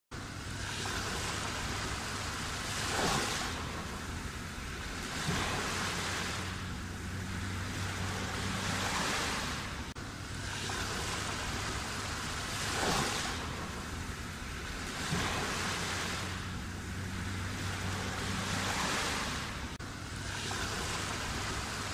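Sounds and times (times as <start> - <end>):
waves breaking: 0.1 - 21.9.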